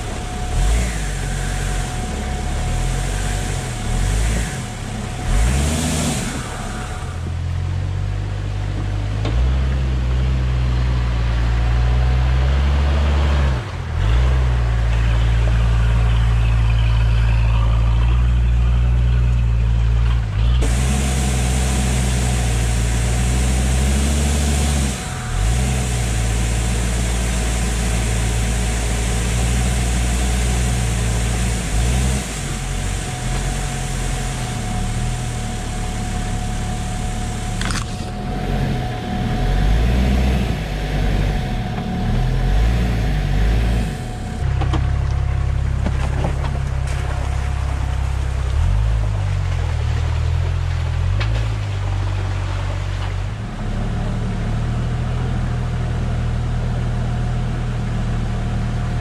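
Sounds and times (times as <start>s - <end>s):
diesel engine running at low revs: 0.0s - 59.0s.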